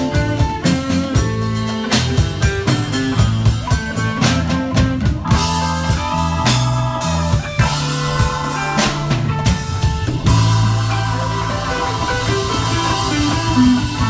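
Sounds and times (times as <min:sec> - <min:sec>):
live blues band playing: 0:00.0 - 0:14.0.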